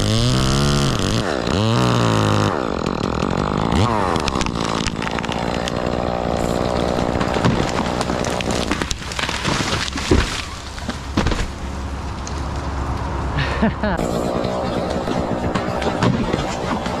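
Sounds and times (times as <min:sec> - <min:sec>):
chainsaw cutting wood: 0:00.0 - 0:11.6, 0:13.8 - 0:17.0.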